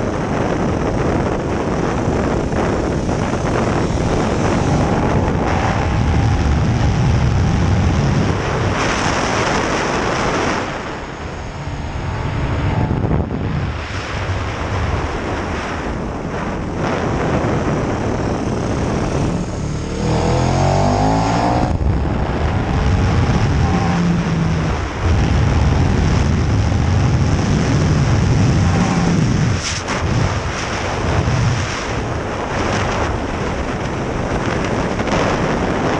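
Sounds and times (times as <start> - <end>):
wind rush: 0.0 - 35.9
motorcycle engine revving: 0.7 - 35.9.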